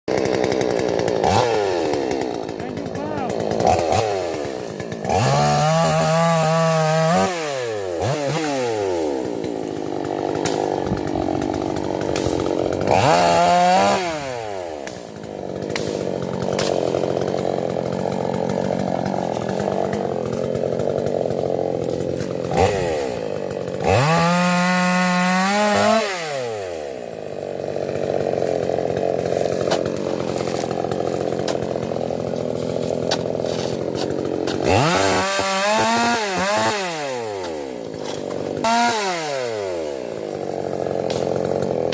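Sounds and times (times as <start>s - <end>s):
chainsaw idling and revving: 0.1s - 41.9s.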